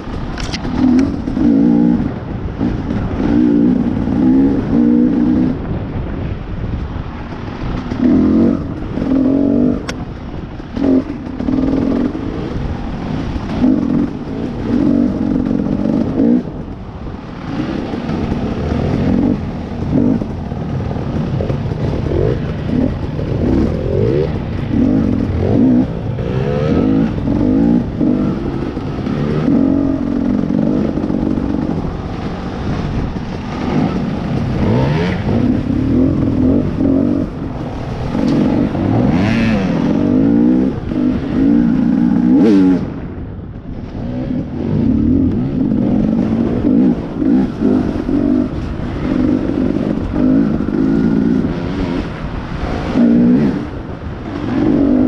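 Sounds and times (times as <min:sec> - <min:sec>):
dirt bike engine revving: 0:00.0 - 0:05.8, 0:07.5 - 0:09.9, 0:10.6 - 0:43.1, 0:44.0 - 0:55.0.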